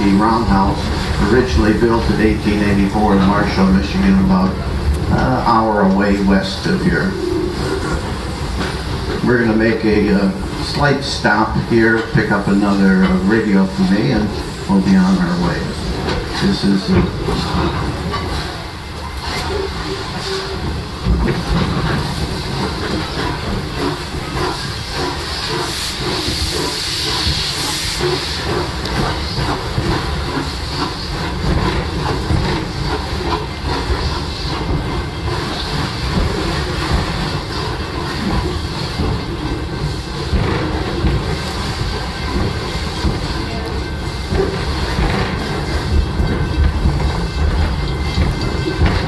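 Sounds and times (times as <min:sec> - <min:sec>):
rail car rumble and clatter: 0:00.0 - 0:49.0
steam locomotive venting steam: 0:00.0 - 0:49.0.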